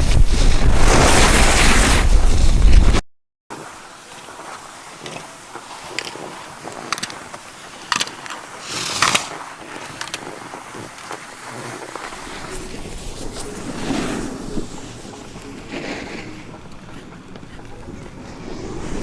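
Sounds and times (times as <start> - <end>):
ski edge scrape: 0.0 - 3.0, 4.5 - 19.0
skis hissing over snow: 0.0 - 19.0.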